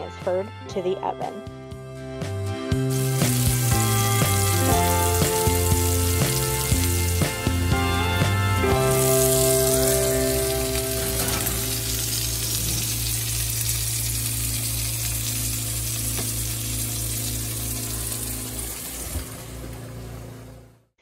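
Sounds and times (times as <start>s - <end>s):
meat sizzling in a skillet: 2.9s - 19.8s.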